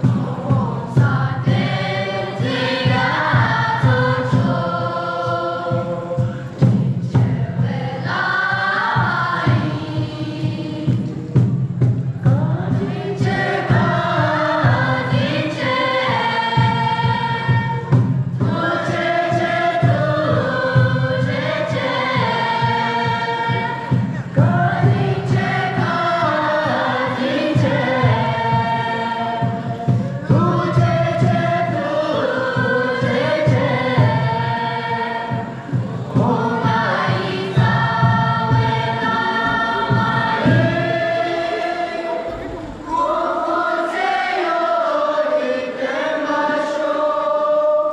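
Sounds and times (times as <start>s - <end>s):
young voices singing in unison: 0.0s - 47.9s.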